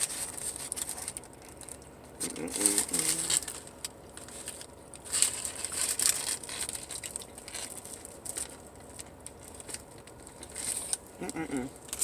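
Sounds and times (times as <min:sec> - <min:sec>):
food wrapper crinkling: 0:00.0 - 0:12.0.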